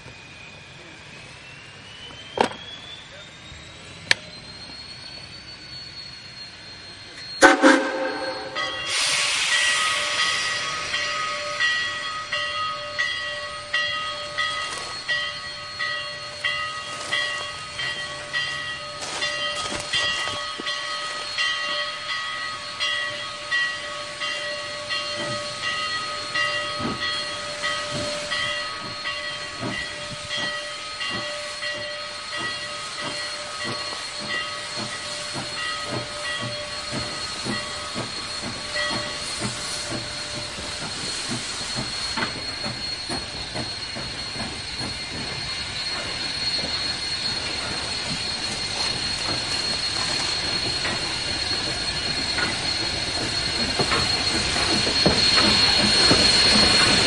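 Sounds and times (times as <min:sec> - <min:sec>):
steam hissing: 0:00.0 - 0:57.0
steam locomotive exhaust chuffs: 0:00.0 - 0:57.0
ringing bell-like tone: 0:02.9 - 0:57.0.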